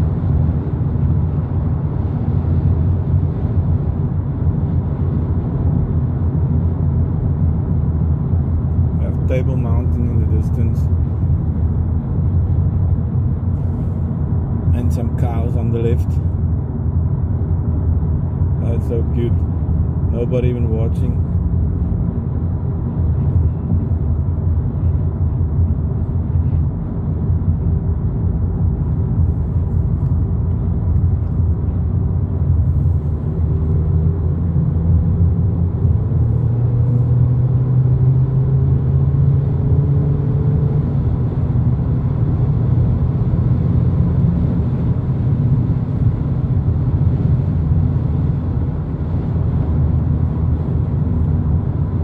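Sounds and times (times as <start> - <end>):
car engine cruising: 0.0 - 52.0.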